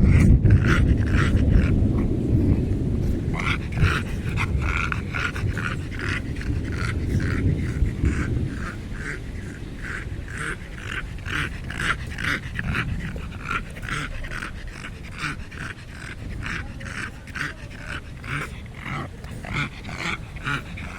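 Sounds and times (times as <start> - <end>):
dog snorting grunts: 0.0 - 20.9.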